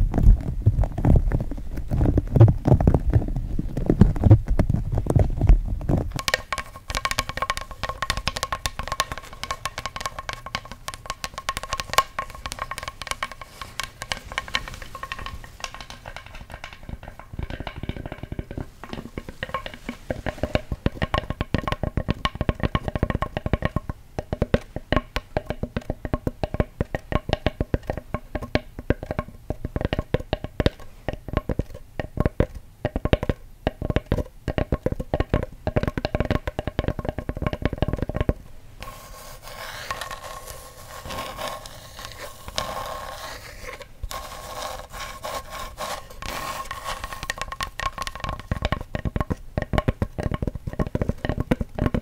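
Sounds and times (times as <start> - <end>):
fast tapping on wood: 0.2 - 52.0.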